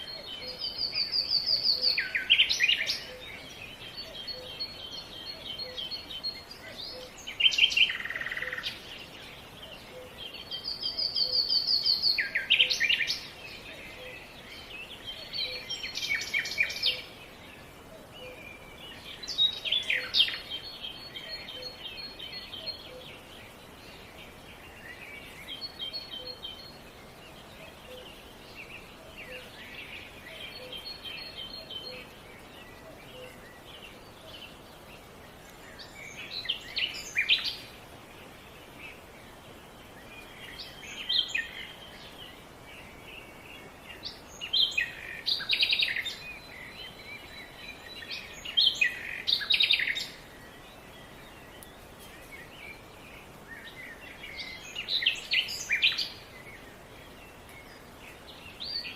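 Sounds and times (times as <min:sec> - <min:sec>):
birds singing and chirping: 0:00.0 - 0:58.9
outdoor background hiss: 0:00.0 - 0:58.9.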